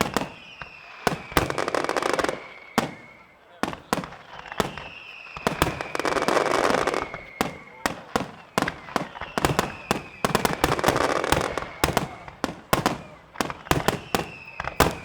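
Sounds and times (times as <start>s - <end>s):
firework crackle: 0.0s - 15.0s
firework whistles: 0.0s - 15.0s.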